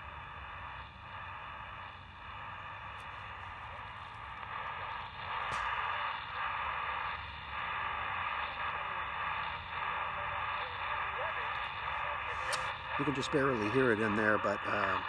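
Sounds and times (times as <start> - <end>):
faint distant radio station: 0.0 - 15.0
radio static hiss: 0.0 - 15.0.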